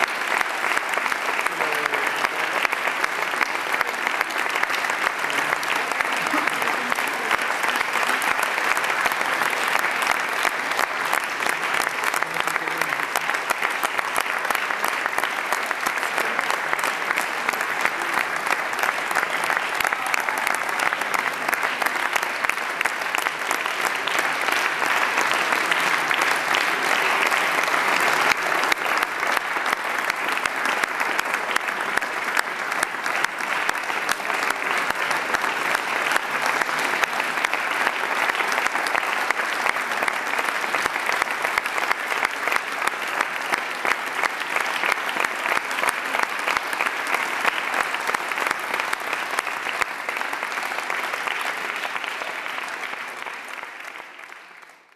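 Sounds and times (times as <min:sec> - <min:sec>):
audience applauding: 0:00.0 - 0:54.9.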